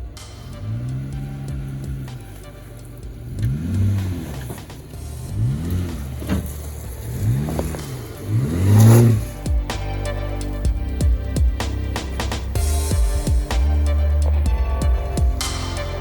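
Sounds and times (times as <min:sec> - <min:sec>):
car engine revving: 0:00.0 - 0:16.0
steady low hum: 0:00.0 - 0:16.0.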